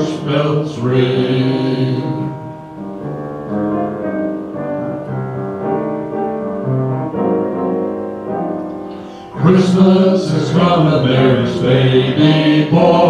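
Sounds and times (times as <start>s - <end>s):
piano chords and melody: 0.0s - 13.0s.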